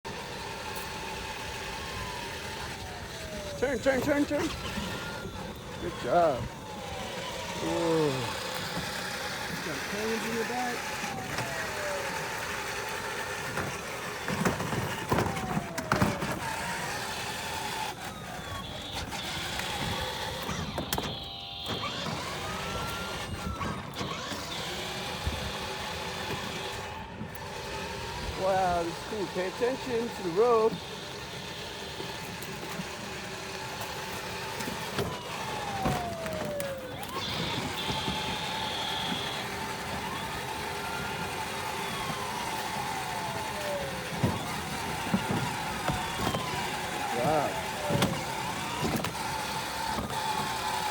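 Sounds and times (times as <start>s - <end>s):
electric motor whine: 0.1s - 50.9s
plastic wheels rumbling on pavement: 0.1s - 50.9s.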